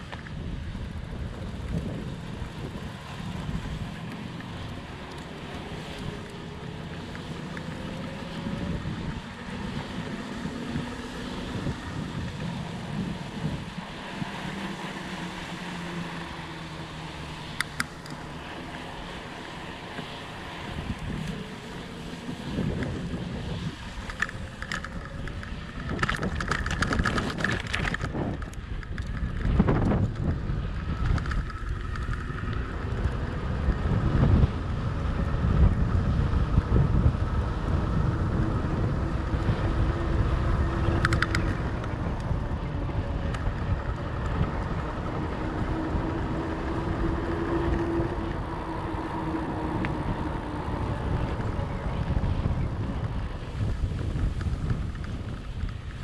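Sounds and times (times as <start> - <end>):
bike tyres rumbling: 0.0 - 56.0
wind on microphone: 0.0 - 56.0.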